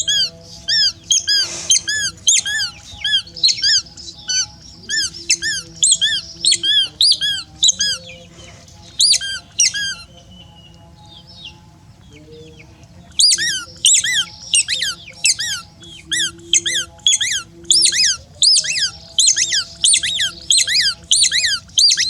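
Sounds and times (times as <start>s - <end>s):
monkey squeaking: 0.0s - 8.2s, 8.9s - 10.2s, 13.1s - 22.0s.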